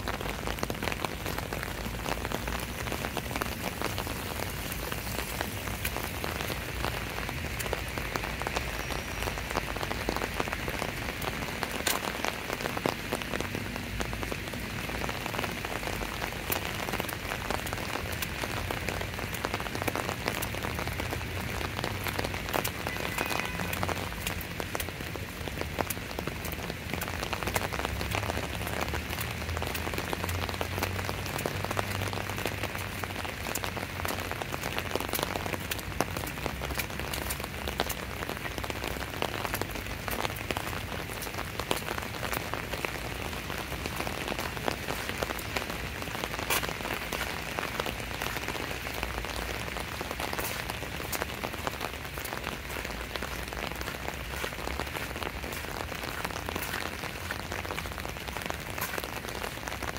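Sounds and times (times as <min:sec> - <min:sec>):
close raindrop hits: 0:00.0 - 0:59.9
steady rain falling: 0:00.0 - 0:59.9.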